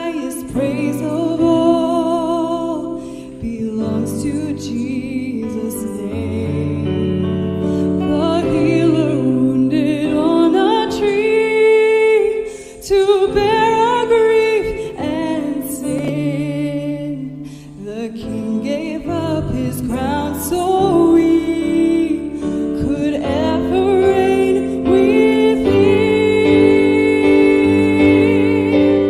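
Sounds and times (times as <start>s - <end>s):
piano accompaniment: 0.0s - 29.0s
woman singing a hymn: 0.0s - 29.0s.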